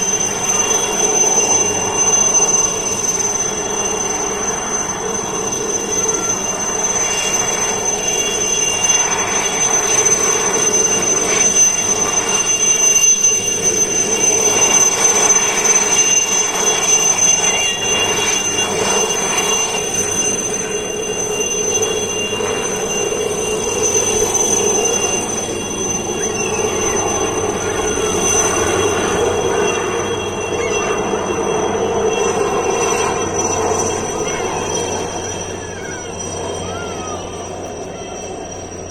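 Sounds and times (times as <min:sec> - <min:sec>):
helicopter engine and rotor noise: 0:00.0 - 0:38.9
high turbine whine: 0:00.0 - 0:38.9.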